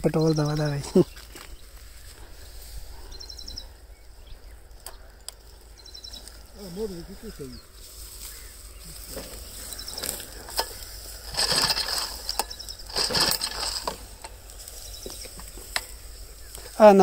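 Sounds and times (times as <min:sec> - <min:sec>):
dry wheat stalks crunching: 0:00.0 - 0:17.0.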